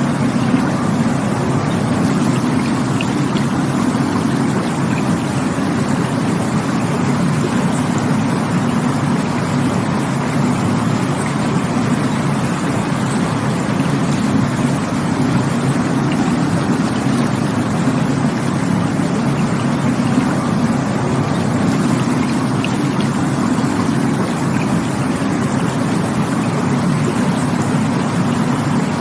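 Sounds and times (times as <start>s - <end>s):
rushing water with deep rumble: 0.0s - 29.0s.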